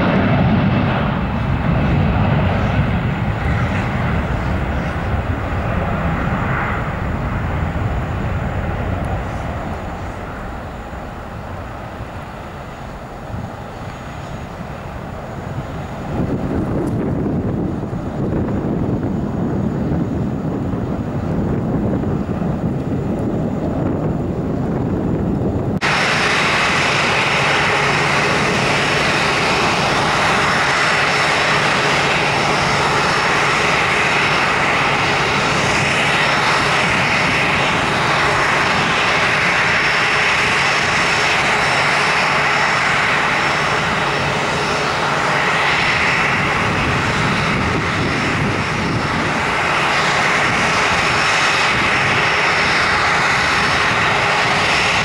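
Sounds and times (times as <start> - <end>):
jet climbing away rumble: 0.0 - 55.0
jet engines whining at low thrust: 0.0 - 55.0.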